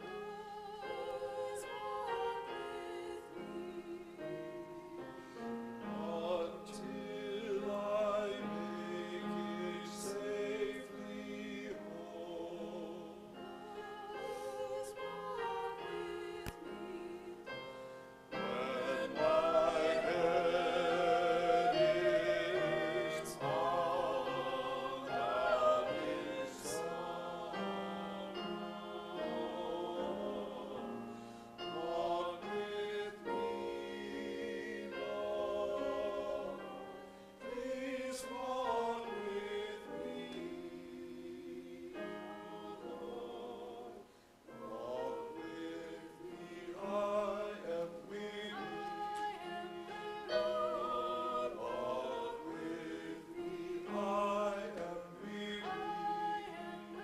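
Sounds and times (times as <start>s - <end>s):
choir singing in parts: 0.0s - 57.0s.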